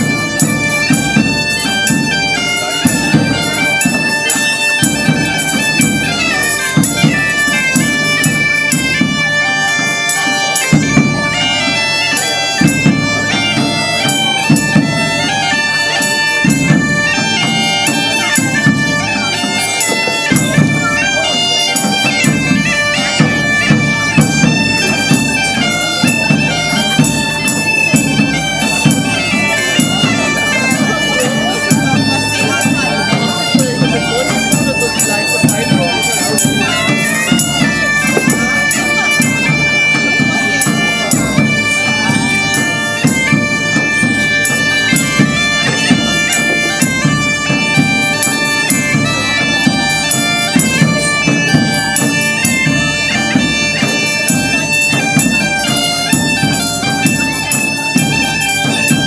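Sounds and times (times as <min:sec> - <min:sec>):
bagpipes playing: 0:00.0 - 0:59.0
drum beating: 0:00.0 - 0:59.0.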